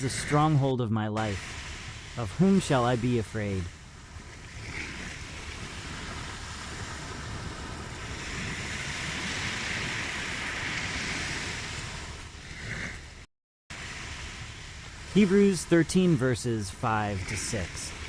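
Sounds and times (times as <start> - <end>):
ocean waves washing on shore: 0.0 - 18.0.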